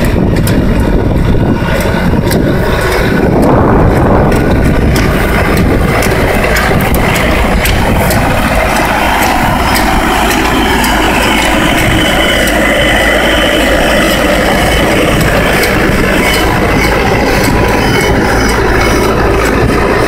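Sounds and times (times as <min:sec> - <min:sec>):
cultivator working soil: 0:00.0 - 0:20.0
tractor diesel engine running: 0:00.0 - 0:20.0.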